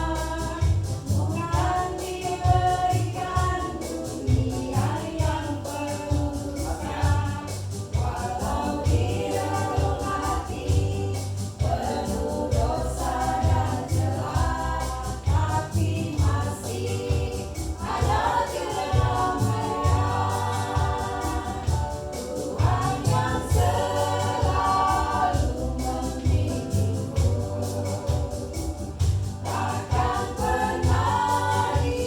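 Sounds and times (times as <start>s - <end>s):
bass: 0.0s - 32.0s
choir singing gospel song: 0.0s - 32.0s
drums keeping a steady beat: 0.0s - 32.0s.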